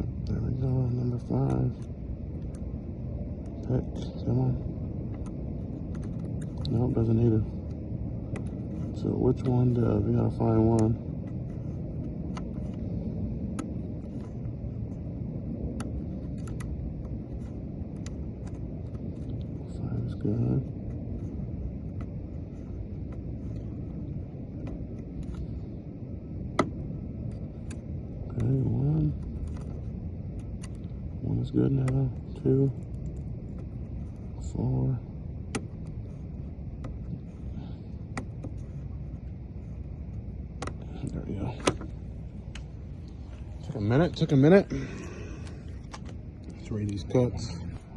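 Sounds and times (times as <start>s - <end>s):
low background noise: 0.0s - 47.9s
low rumble: 0.0s - 47.9s.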